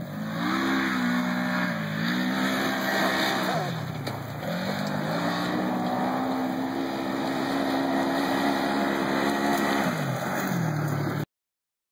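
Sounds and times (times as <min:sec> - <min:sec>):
engine running at high revs: 0:00.0 - 0:11.2.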